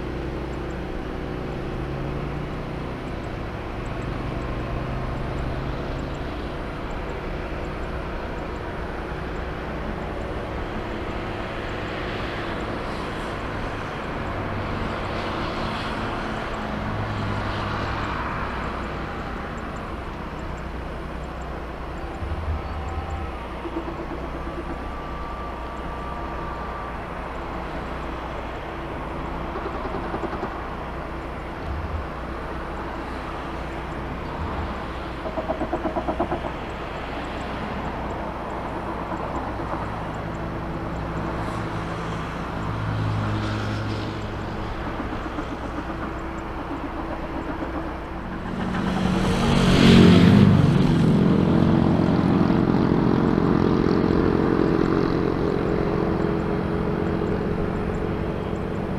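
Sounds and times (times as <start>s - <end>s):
airliner engines rumbling: 0.0s - 58.9s.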